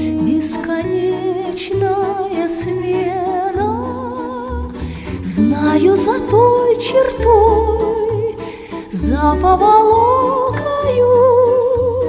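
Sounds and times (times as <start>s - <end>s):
low instrumental bass: 0.0s - 12.0s
woman singing with vibrato: 0.0s - 12.0s.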